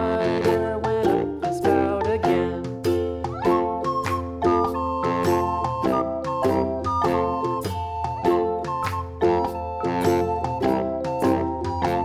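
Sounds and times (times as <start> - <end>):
cheerful children's music: 0.0 - 12.0.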